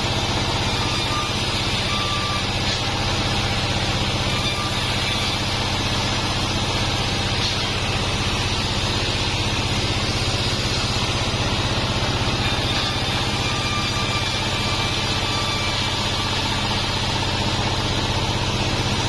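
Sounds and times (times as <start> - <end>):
bandsaw mill droning: 0.0 - 19.0.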